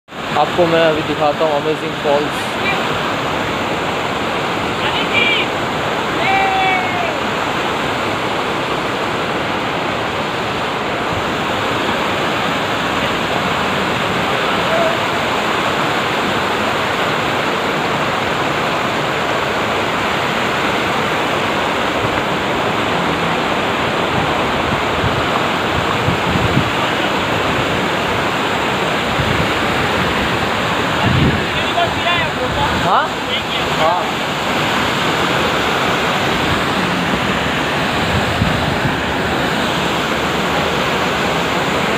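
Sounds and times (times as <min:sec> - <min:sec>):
water rushing over boulders: 0:00.1 - 0:41.9.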